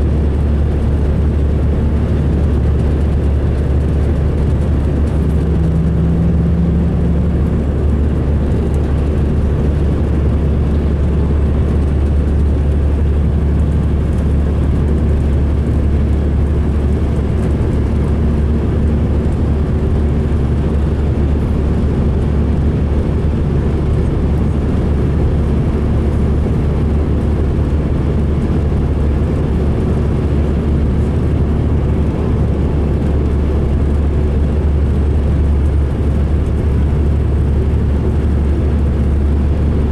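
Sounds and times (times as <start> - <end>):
diesel coach engine rumbling: 0.0 - 39.9.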